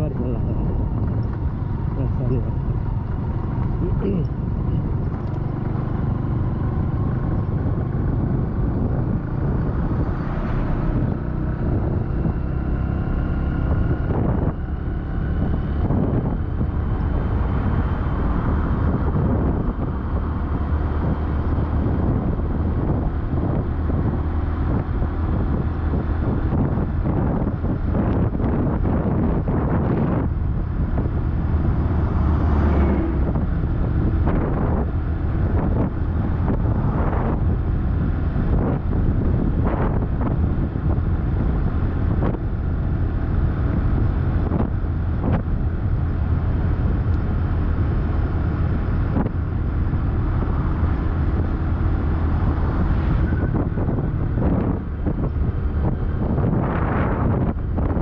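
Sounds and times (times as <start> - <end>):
vehicle engine and road rumble: 0.0 - 58.0
wind buffeting microphone: 0.0 - 58.0.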